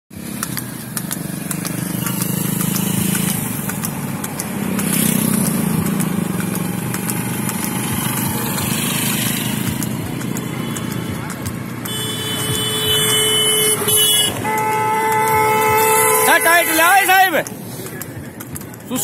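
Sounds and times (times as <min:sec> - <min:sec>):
motorcycle engine running: 0:00.2 - 0:19.0.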